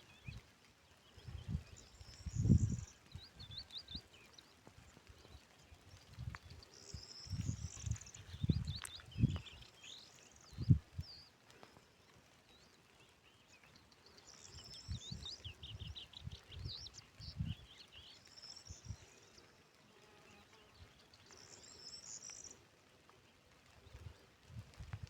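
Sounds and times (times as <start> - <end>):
trilling birdsong: 0.0 - 22.6
faint songbirds chirping: 0.0 - 25.0.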